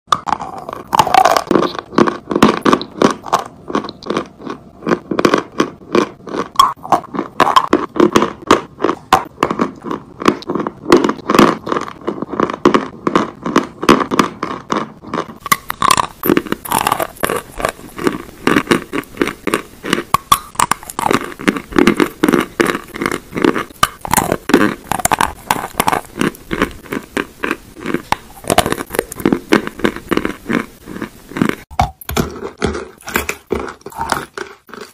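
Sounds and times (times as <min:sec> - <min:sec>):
chewing crunchy chalk: 0:00.1 - 0:34.9.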